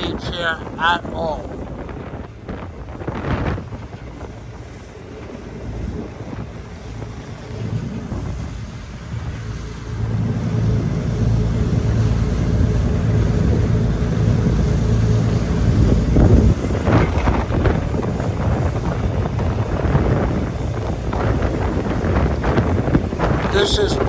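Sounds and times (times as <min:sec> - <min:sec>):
ferry engines droning: 0:00.0 - 0:24.0
wind buffeting microphone: 0:00.0 - 0:24.0.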